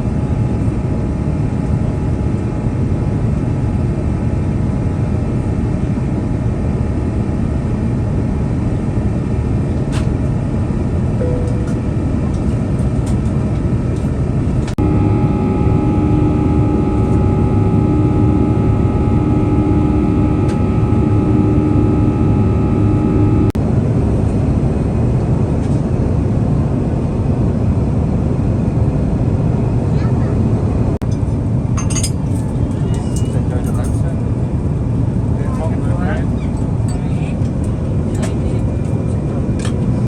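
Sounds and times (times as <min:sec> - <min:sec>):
airplane cabin rumble: 0:00.0 - 0:40.0
steady whine: 0:06.5 - 0:40.0
pulsing hum: 0:07.8 - 0:40.0.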